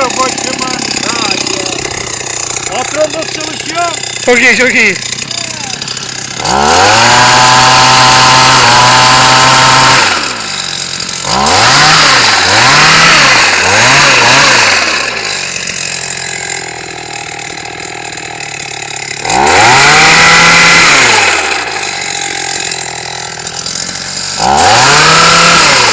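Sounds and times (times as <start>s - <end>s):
small engine revving: 0.0s - 25.9s.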